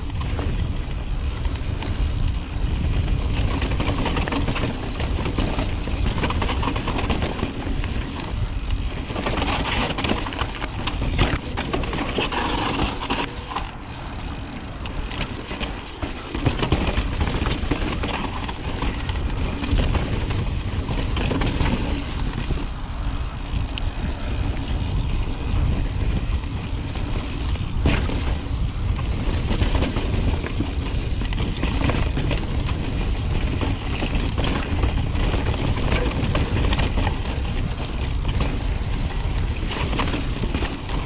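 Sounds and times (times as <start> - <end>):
bike tyres and frame rattling: 0.0 - 41.0
wind rumble on microphone: 0.0 - 41.0.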